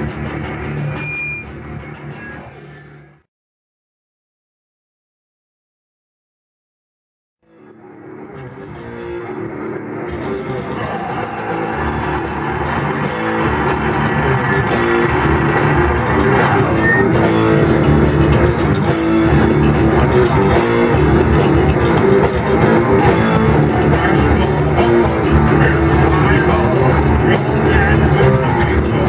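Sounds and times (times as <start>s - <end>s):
heavy metal band playing: 0.0s - 2.7s, 7.6s - 29.0s.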